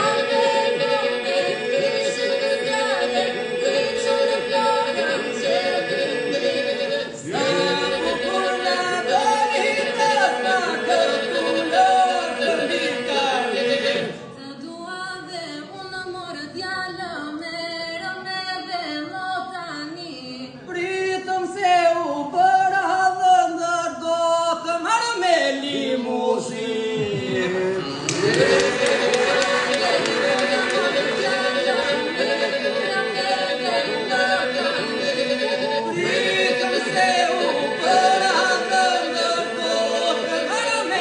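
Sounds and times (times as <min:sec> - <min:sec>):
unaccompanied group folk singing: 0:00.0 - 0:15.4, 0:20.6 - 0:41.0.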